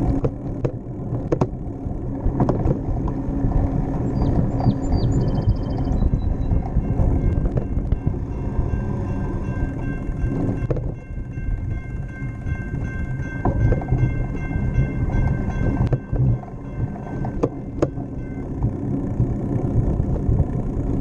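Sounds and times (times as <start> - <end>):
wind on microphone: 1.2 - 21.0.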